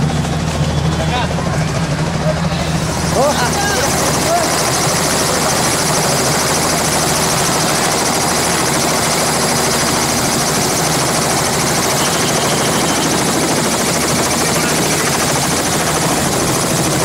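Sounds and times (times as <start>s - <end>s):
helicopter engine and rotors: 0.0s - 17.0s.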